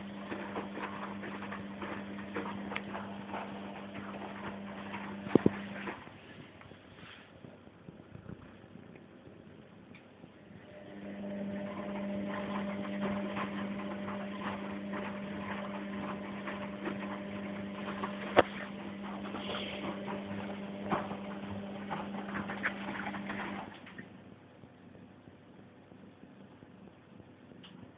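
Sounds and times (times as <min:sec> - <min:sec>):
washing machine motor hum: 0:00.0 - 0:08.9, 0:09.6 - 0:27.9.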